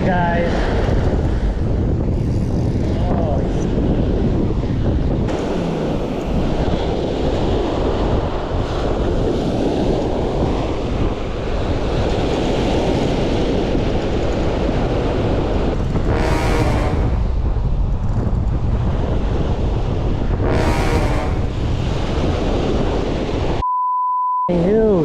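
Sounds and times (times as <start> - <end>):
wind buffeting microphone: 0.0 - 23.6.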